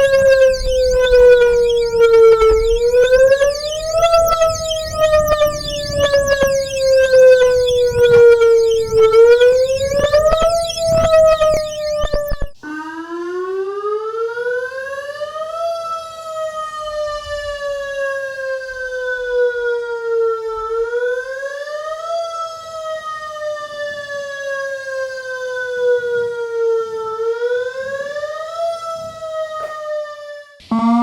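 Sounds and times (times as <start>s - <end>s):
tornado siren wailing: 0.0s - 31.0s.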